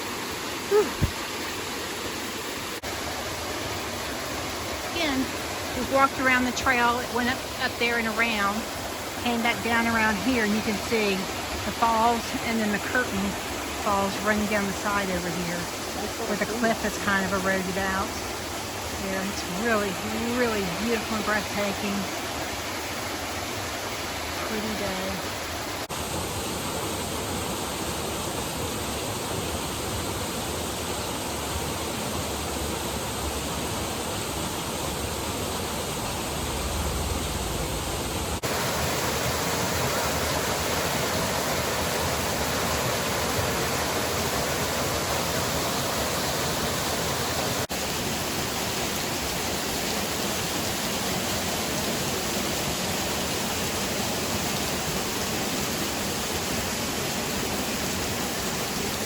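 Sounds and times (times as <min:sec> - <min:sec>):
waterfall rushing: 0:00.0 - 0:25.9, 0:33.3 - 0:59.0.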